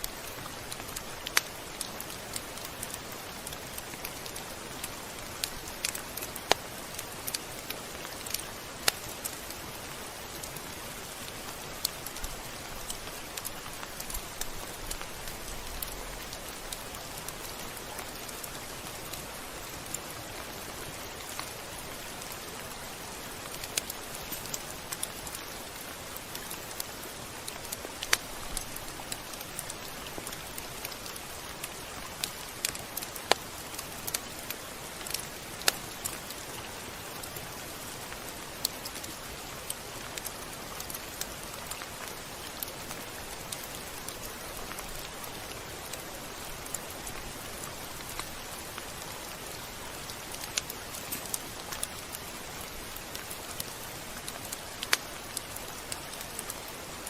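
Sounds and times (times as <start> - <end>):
rain hissing on a surface: 0.0 - 57.0.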